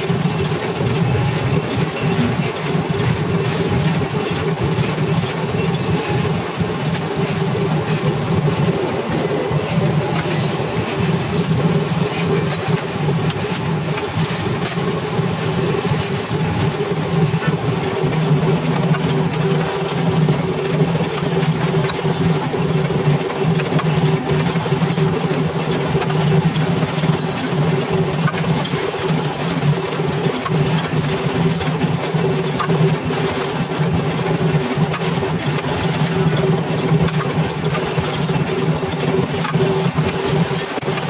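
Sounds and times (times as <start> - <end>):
machine spindle humming: 0.0 - 41.0.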